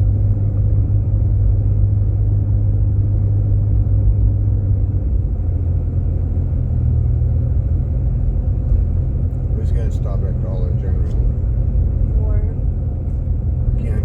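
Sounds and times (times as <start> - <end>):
engine and road drone: 0.0 - 14.0.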